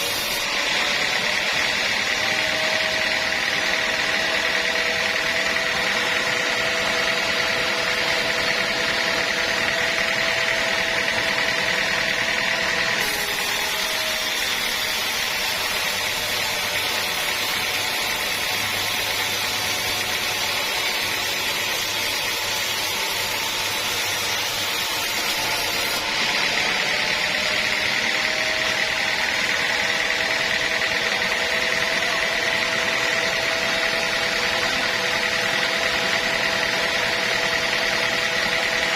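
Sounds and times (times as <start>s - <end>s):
sawmill saw whining: 0.0s - 38.9s.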